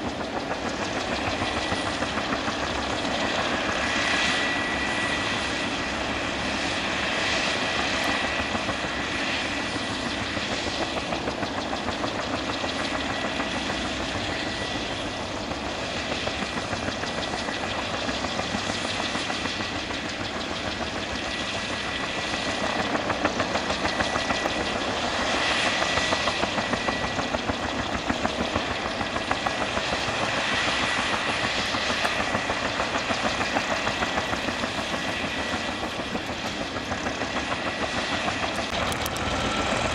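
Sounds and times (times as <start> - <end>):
helicopter rotor beat: 0.0 - 39.9
helicopter turbine whine: 0.0 - 39.9.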